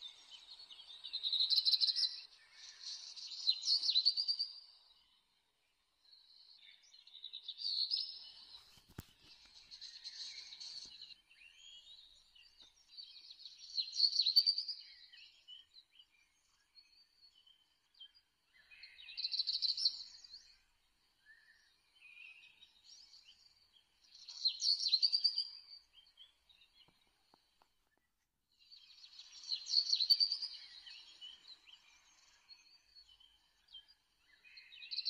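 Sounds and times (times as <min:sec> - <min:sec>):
small birds chirping and trilling: 0:00.0 - 0:35.0.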